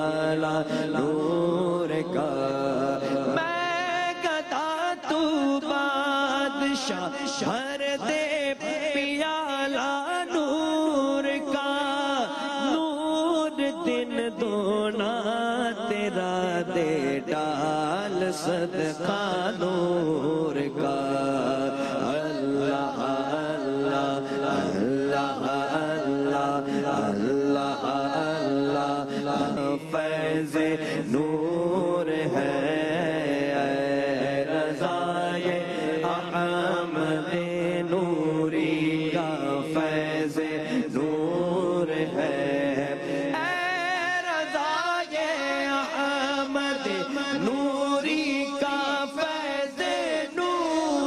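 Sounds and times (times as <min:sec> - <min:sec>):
man singing devotional song: 0:00.0 - 0:51.0.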